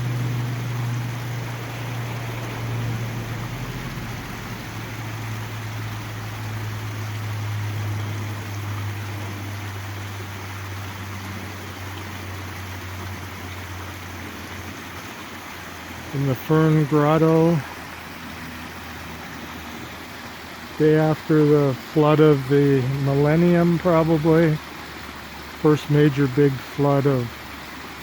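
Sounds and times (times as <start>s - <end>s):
creek water rushing: 0.0s - 28.0s
traffic hum: 0.0s - 28.0s.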